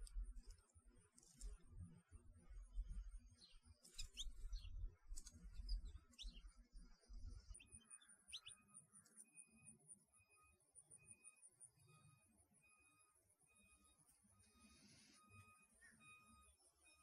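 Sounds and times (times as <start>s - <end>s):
songbirds chirping faintly: 0.0s - 17.0s.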